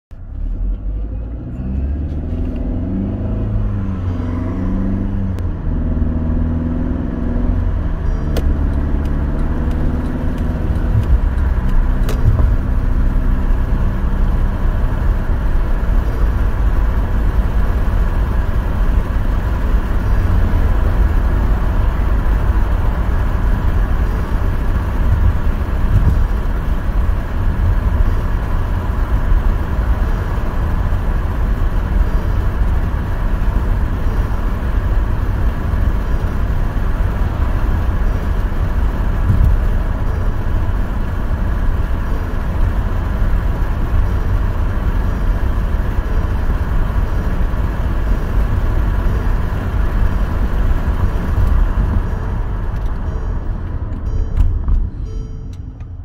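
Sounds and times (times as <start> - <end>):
car engine accelerating: 0.1 - 56.0
road noise: 0.1 - 56.0.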